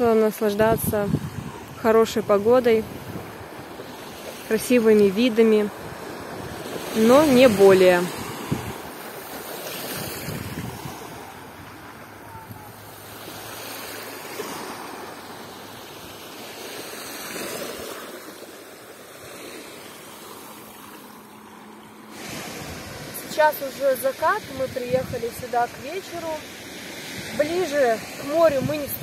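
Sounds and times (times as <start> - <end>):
small waves lapping on shore: 0.0 - 29.0.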